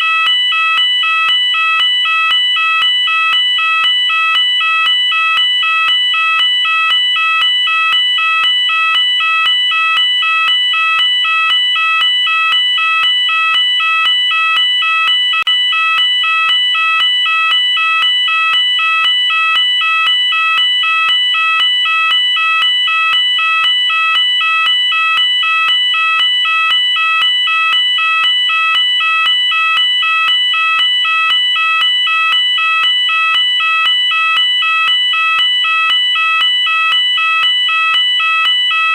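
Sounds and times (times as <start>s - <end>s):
two-tone fire alarm sounder: 0.0s - 38.9s.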